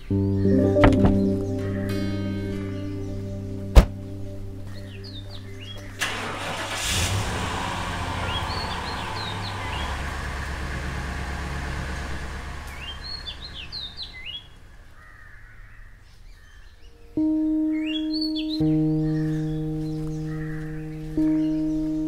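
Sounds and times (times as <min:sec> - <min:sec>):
birds chirping: 0:00.0 - 0:07.1, 0:07.9 - 0:22.0.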